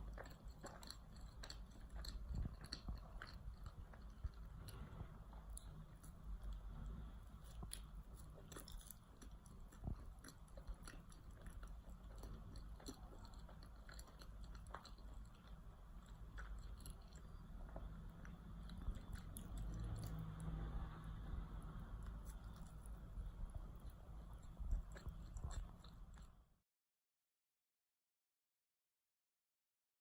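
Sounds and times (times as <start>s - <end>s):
person chewing: 0.0s - 26.4s.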